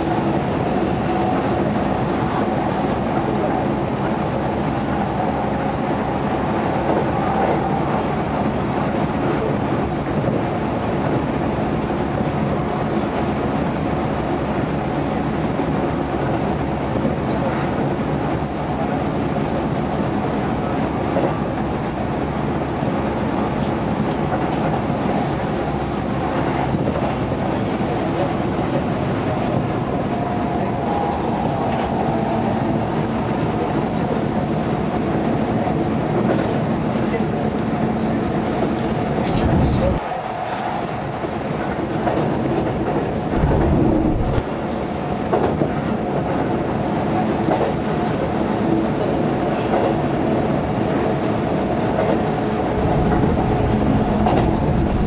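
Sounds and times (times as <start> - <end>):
electric train hum: 0.0 - 55.0
train wheels rumbling on rail: 0.0 - 55.0.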